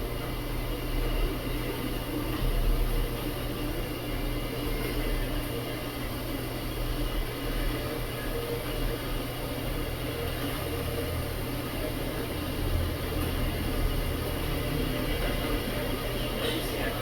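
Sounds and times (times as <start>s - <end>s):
kettle heating with rushing rumble: 0.0s - 17.0s.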